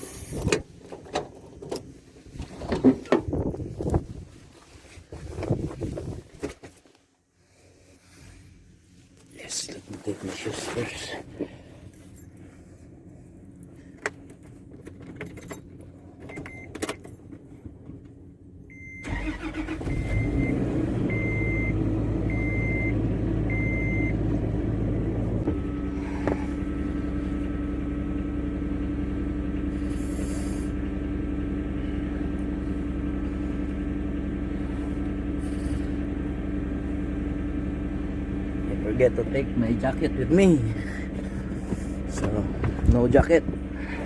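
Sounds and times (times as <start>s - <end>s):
car engine starting and idling: 7.5s - 44.0s.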